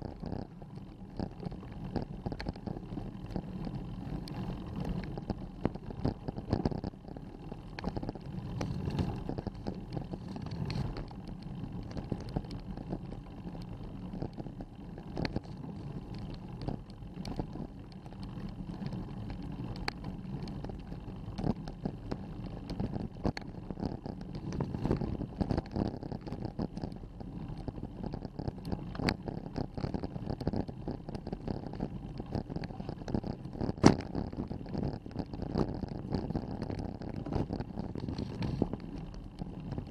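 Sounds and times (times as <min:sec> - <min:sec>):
bicycle tyres rumbling: 0:00.0 - 0:39.9
small clicks and rattles: 0:00.0 - 0:39.9.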